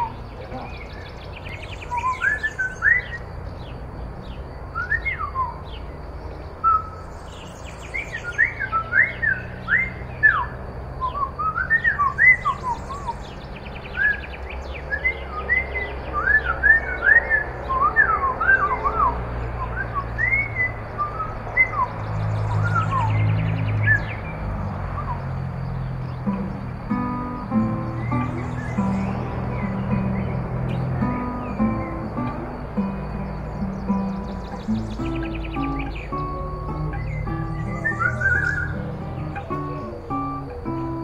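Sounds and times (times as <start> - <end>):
bird trilling: 0.0 - 3.7, 6.6 - 24.3, 25.9 - 41.0
songbirds singing: 0.0 - 41.0.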